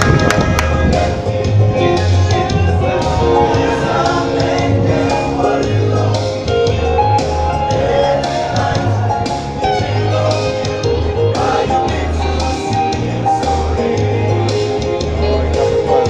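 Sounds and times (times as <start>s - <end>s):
band with deep bass and beat: 0.0s - 16.0s
group singing in harmony: 0.0s - 16.0s.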